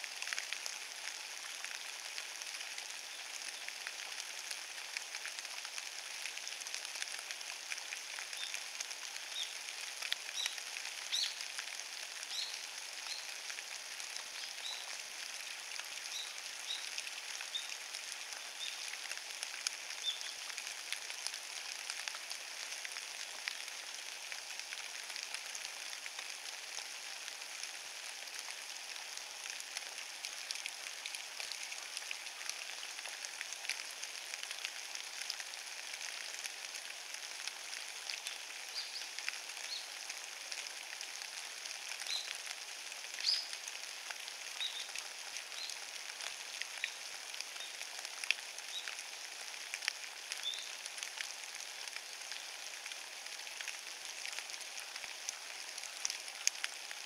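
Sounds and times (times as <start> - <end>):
light rain pattering on wet leaves: 0.0 - 57.0.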